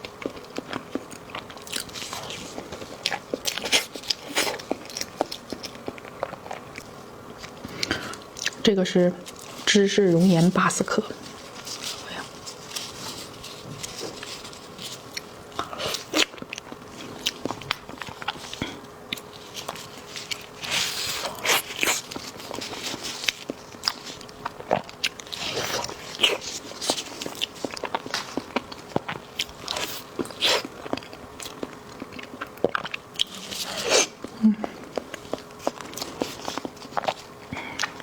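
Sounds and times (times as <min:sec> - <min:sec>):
wet sticky chewing: 0:00.0 - 0:38.0.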